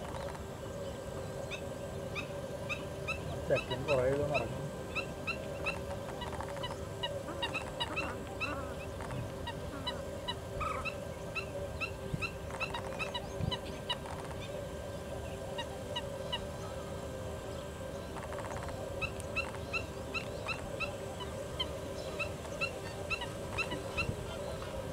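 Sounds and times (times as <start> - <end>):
birds calling: 0.0 - 24.9
steady low hum: 0.0 - 24.9.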